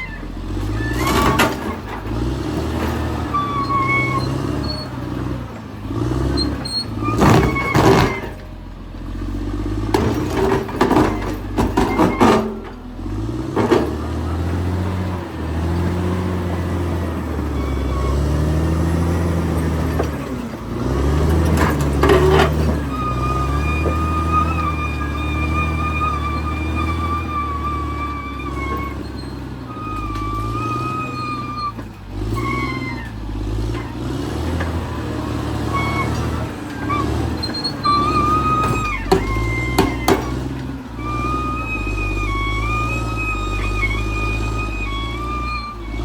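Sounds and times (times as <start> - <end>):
bulldozer clanking: 0.0 - 46.0
bulldozer diesel engine: 0.0 - 46.0.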